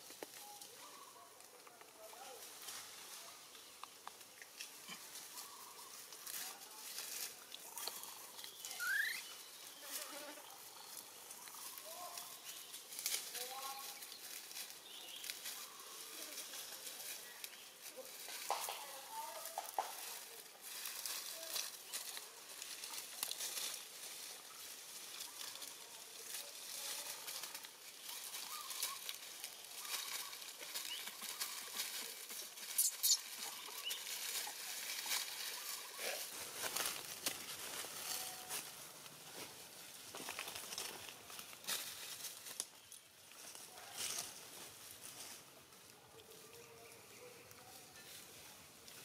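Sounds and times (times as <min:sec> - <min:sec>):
dry leaves crackling and rustling: 0:00.0 - 0:49.0.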